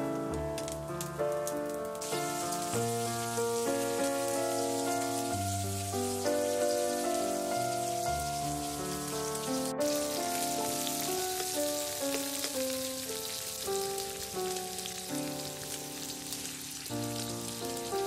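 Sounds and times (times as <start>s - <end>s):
slow instrumental melody: 0.0s - 18.0s
steady hiss: 0.1s - 18.0s.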